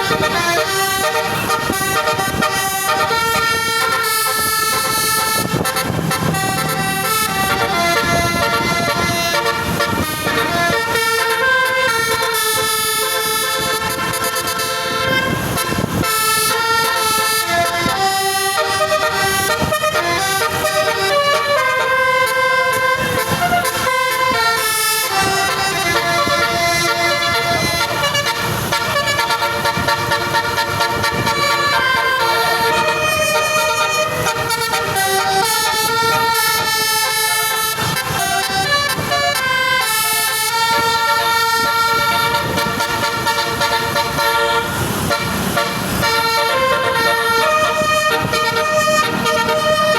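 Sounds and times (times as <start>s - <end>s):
bus horn playing a tune: 0.0s - 49.9s.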